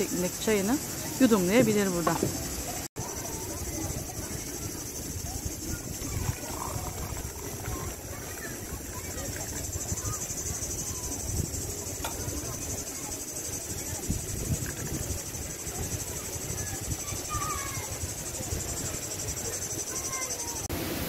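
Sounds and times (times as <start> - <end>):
insects chirring: 0.0 - 21.0
low uneven rumble: 0.8 - 18.9.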